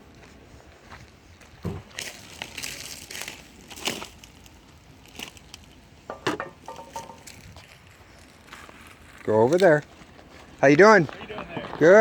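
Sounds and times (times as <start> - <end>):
sharp crunching and crackling: 0.8 - 12.0.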